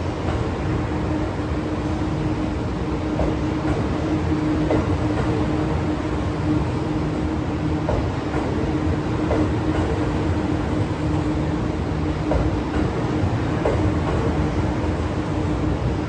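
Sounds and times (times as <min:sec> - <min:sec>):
electric locomotive hum: 0:00.0 - 0:16.0
train rumbling on tracks: 0:00.0 - 0:16.0.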